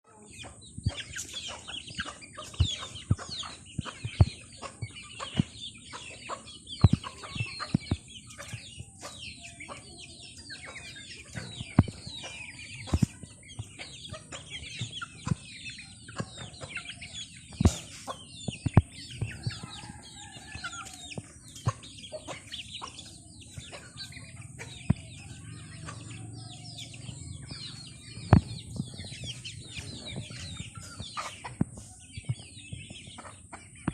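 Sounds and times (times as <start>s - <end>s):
chickens clucking and chirping: 0.0s - 33.9s.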